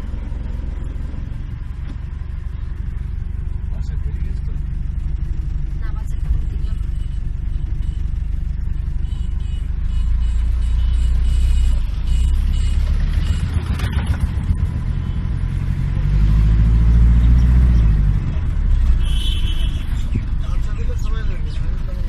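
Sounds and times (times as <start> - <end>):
heavy vehicle engine rumbling: 0.0 - 22.0.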